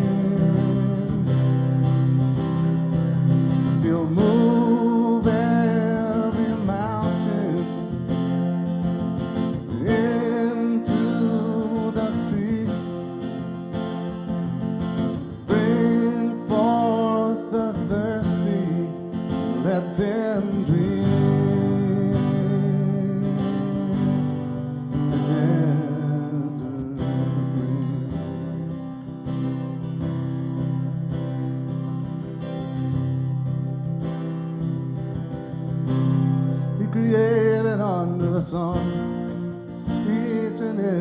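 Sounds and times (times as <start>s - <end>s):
acoustic guitar strummed chords: 0.0s - 41.0s
wavering guitar melody: 0.0s - 41.0s.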